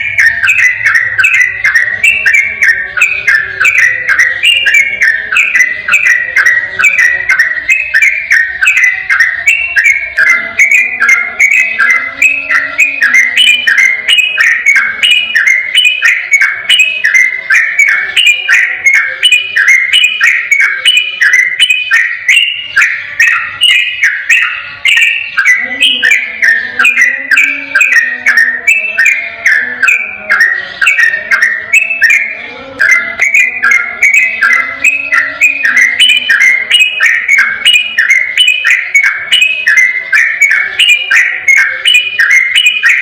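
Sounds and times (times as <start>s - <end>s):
bird singing whistled notes: 0.0s - 43.0s.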